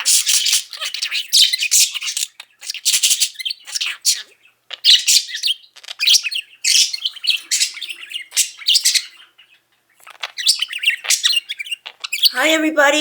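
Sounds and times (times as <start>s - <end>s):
budgerigar chattering: 0.0s - 12.6s.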